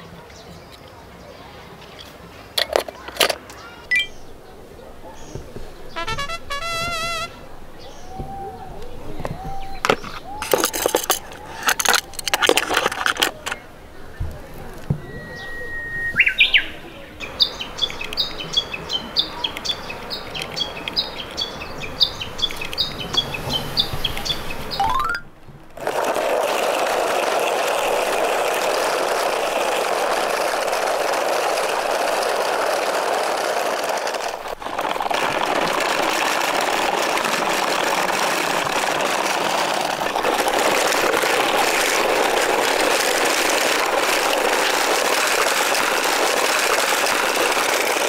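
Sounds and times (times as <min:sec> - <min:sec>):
toy truck wheels rolling: 0:02.0 - 0:48.0.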